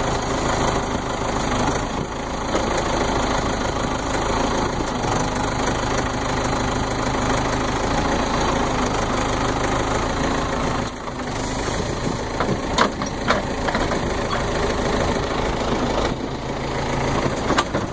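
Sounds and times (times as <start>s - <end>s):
backhoe engine running: 0.0s - 17.9s.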